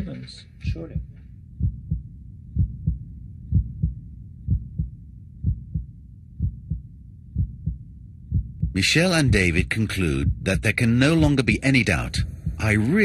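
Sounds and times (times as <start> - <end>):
heartbeat thumps: 0.6 - 13.0.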